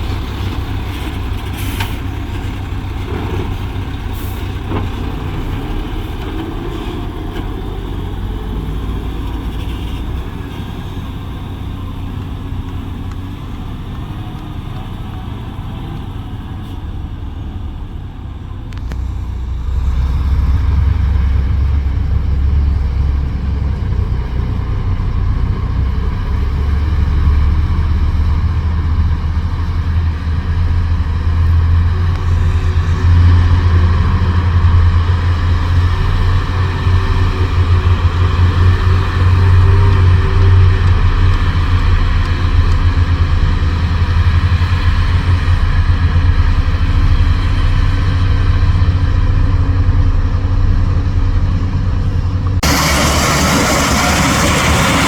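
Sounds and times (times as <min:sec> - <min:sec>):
diesel truck engine rumbling: 0:00.0 - 0:55.0.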